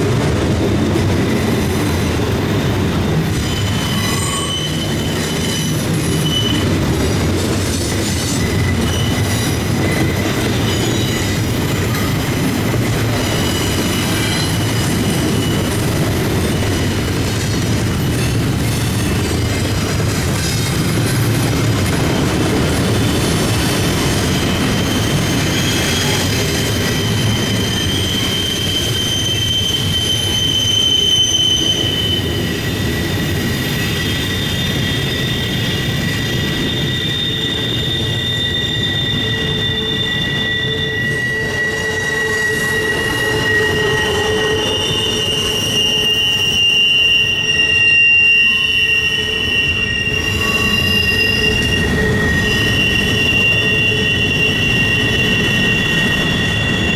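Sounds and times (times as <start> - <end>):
freight train rumbling past: 0.0 - 56.9
train wheel squeals: 0.0 - 56.9.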